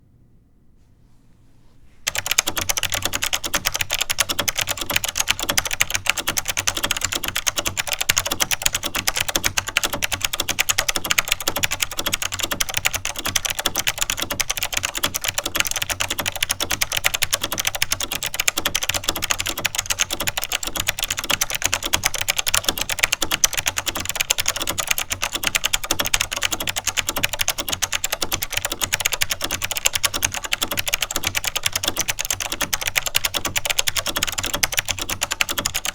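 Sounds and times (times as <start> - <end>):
fast typing on clicky keyboard: 2.1 - 35.9.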